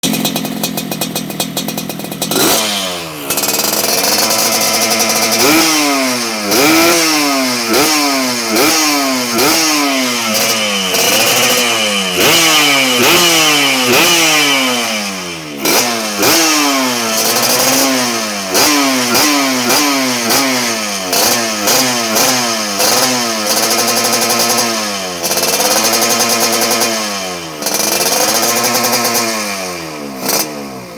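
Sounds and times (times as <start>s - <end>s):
two-stroke motorcycle engine revving: 0.0s - 30.9s.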